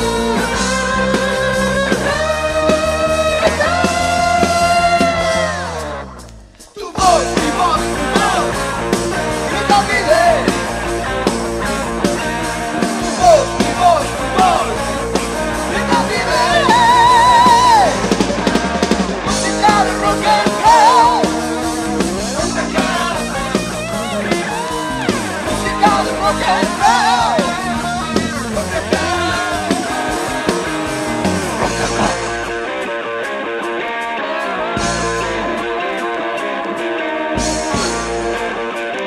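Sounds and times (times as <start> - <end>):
bass guitar: 0.0 - 39.0
drums: 0.0 - 39.0
electric guitar: 0.0 - 39.0
rock band playing: 0.0 - 39.0.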